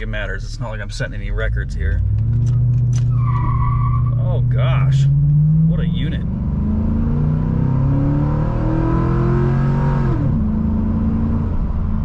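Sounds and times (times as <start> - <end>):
car engine accelerating hard: 1.5 - 12.0.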